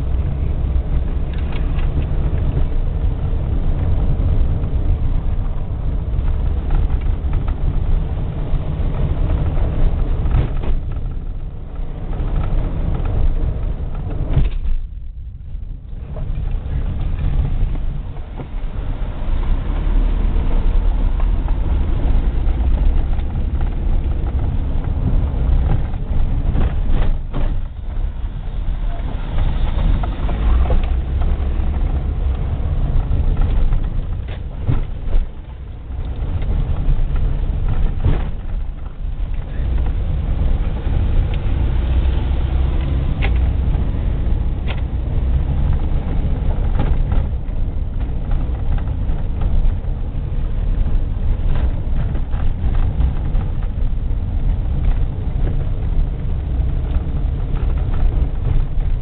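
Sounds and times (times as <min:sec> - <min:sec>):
vehicle driving on gravel: 0:00.0 - 0:59.0.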